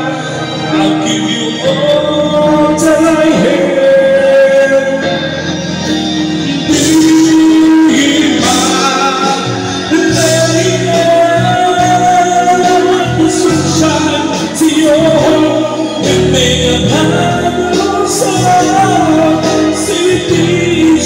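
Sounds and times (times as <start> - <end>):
backing track music: 0.0 - 21.0
man singing into microphone: 0.0 - 21.0.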